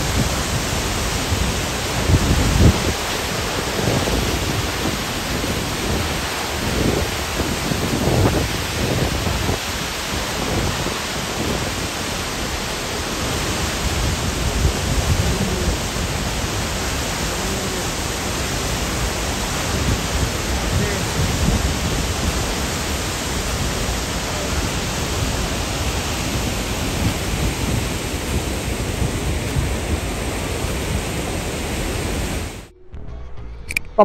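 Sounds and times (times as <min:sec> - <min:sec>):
waterfall roaring: 0:00.0 - 0:32.7
low rumbles: 0:00.0 - 0:34.0.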